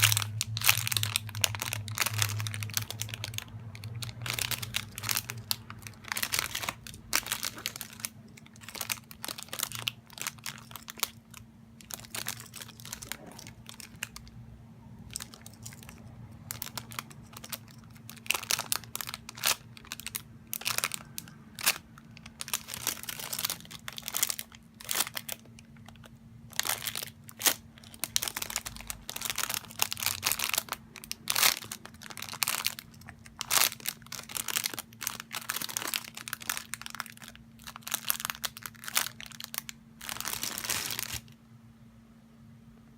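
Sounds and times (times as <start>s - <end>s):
wrapping crinkling: 0.0s - 14.4s, 15.0s - 41.4s
low electrical hum: 0.0s - 42.9s.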